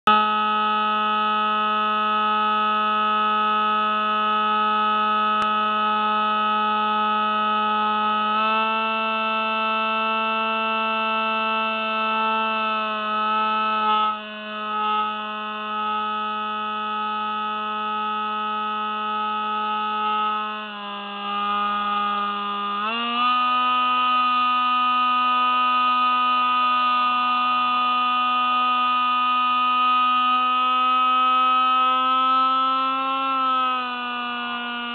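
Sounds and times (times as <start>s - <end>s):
model plane motor buzzing: 0.1s - 34.9s.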